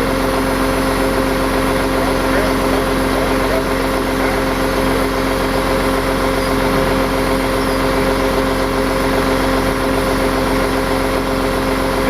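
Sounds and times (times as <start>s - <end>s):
tow truck engine running: 0.0s - 12.0s.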